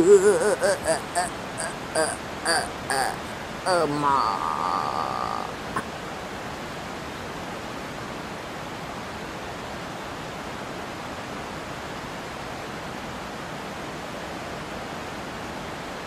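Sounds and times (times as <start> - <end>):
waterfall roar: 0.0 - 16.0.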